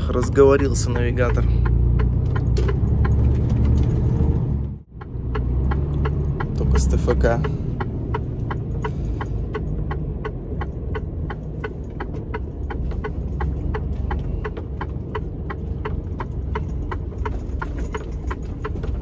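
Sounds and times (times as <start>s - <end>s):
diesel engine rumble: 0.0s - 19.0s
turn signal ticking: 0.0s - 19.0s.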